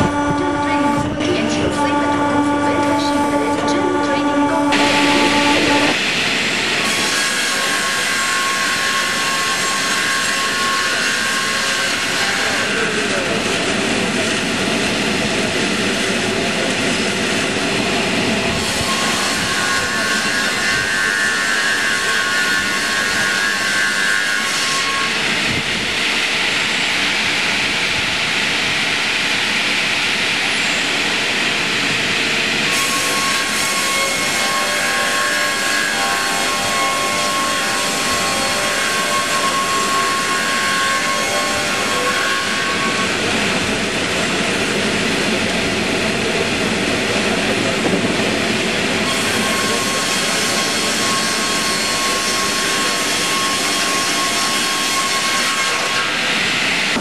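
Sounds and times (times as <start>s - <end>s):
circular saw cutting log: 4.5s - 57.0s.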